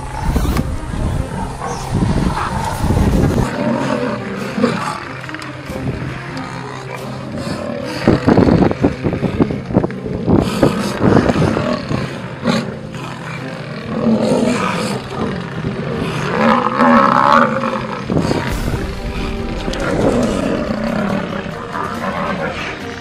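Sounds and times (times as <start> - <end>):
background music: 0.0 - 23.0
lions growling and roaring: 0.0 - 23.0.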